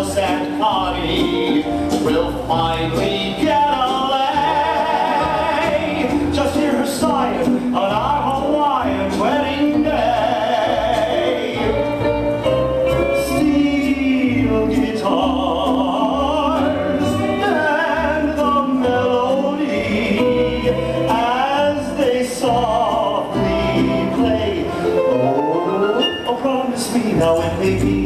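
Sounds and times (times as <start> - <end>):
backing band: 0.0 - 28.0
voices singing long notes: 1.1 - 28.0.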